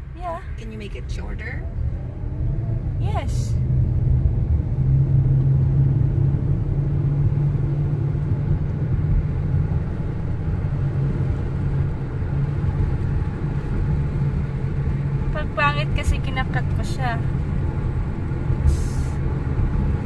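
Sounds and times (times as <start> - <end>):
low engine hum: 0.0 - 20.0
tyres rumbling on road: 0.0 - 20.0.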